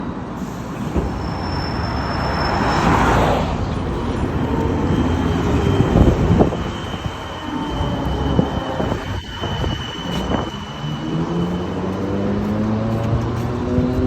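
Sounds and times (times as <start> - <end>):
tram rumble and rattle: 0.0 - 14.0.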